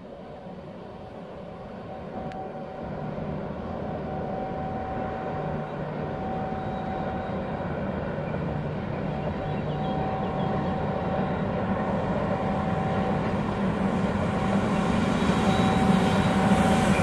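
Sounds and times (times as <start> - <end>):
freight train rumble: 0.0 - 17.0
locomotive whine: 0.0 - 17.0.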